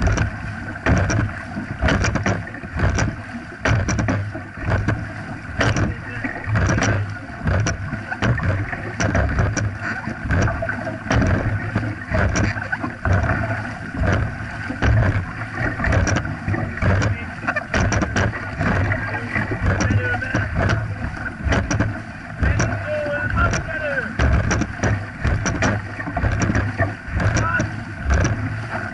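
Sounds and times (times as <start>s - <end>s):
paddles splashing through water: 0.0s - 28.9s
water rushing along hull: 0.0s - 28.9s.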